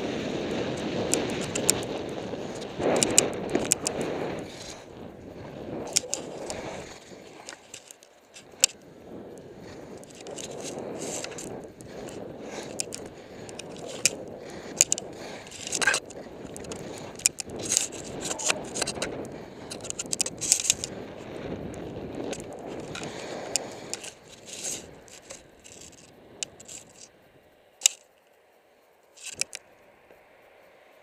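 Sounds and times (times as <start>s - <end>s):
skis scraping over hard snow: 0.0s - 27.1s
skis and poles clicking: 0.0s - 27.2s, 27.8s - 28.4s, 29.1s - 29.9s.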